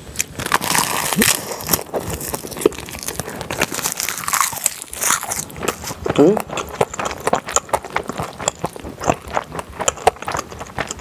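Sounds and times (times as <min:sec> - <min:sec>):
mouth chewing crunchy food: 0:00.0 - 0:11.0.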